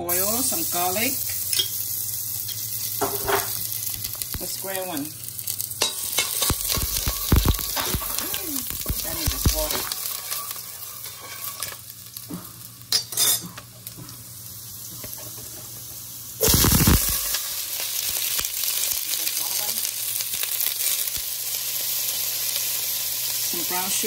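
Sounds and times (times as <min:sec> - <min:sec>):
beans sizzling in hot oil: 0:00.0 - 0:24.0
garlic frying in oil: 0:00.0 - 0:24.0.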